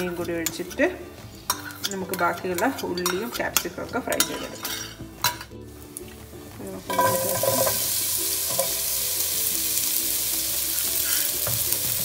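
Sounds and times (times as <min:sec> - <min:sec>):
onion sizzling in frying pan: 0:00.0 - 0:12.0.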